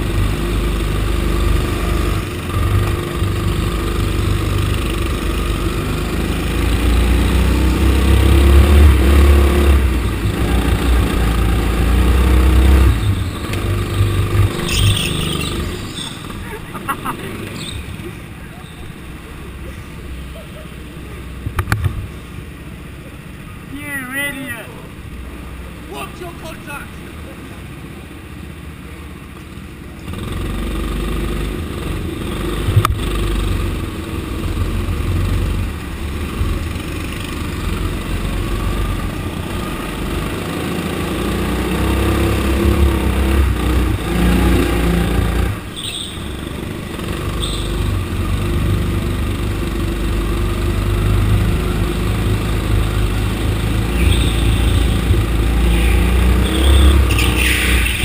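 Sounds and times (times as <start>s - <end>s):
go-kart engine running: 0.0s - 22.0s, 29.8s - 58.0s.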